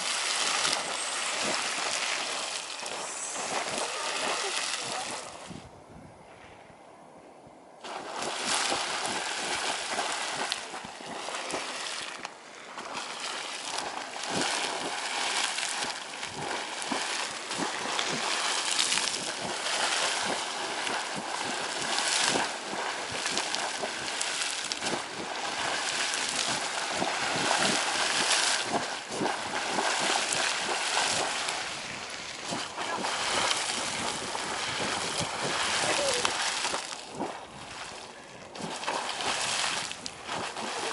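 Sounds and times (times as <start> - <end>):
geyser spraying water: 0.0 - 5.4, 7.8 - 40.9.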